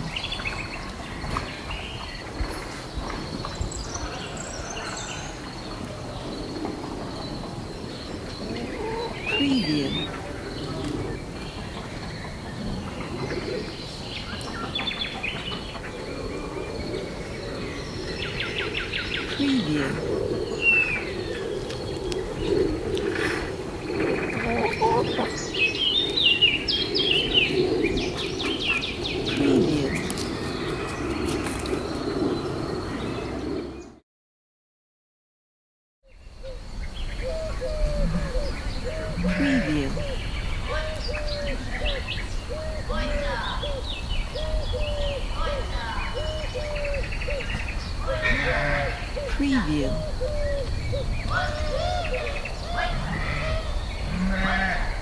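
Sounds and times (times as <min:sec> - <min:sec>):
birds chirping: 0:00.0 - 0:34.0, 0:36.2 - 0:55.0
songbirds calling: 0:00.0 - 0:34.0, 0:36.1 - 0:55.0.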